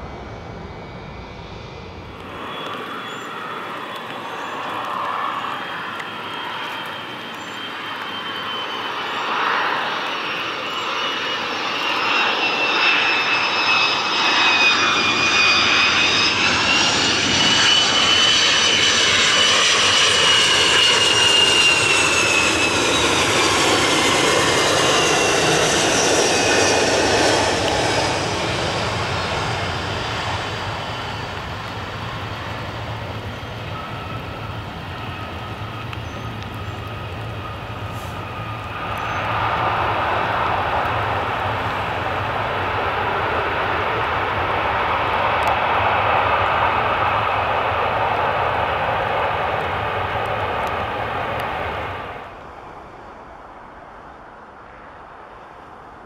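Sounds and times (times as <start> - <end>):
jet engines reverse thrust: 0.0 - 53.0
jet roar with high whine: 0.0 - 56.0.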